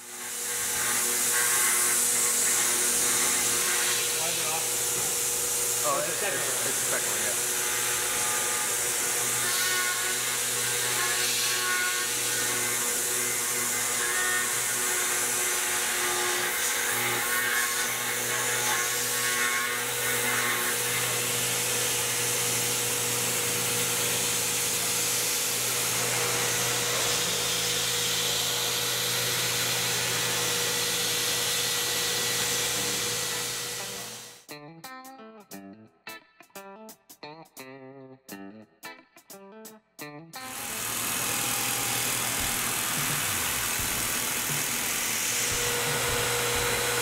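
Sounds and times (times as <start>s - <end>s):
milling machine whine and hiss: 0.0s - 34.5s, 40.5s - 47.0s.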